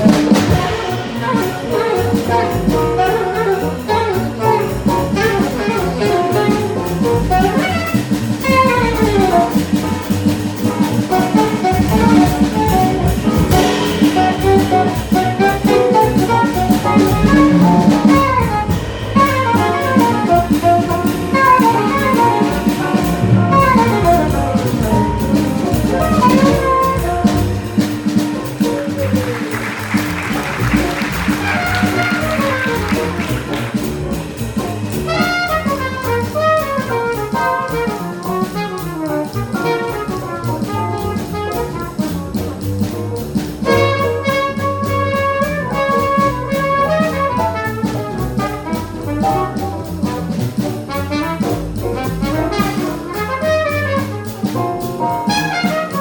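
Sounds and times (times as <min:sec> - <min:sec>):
horn playing quick runs: 0:00.0 - 0:42.9, 0:43.6 - 0:56.0
drums with cymbal strokes: 0:00.0 - 0:56.0
piano: 0:00.0 - 0:56.0
walking bass: 0:00.0 - 0:56.0.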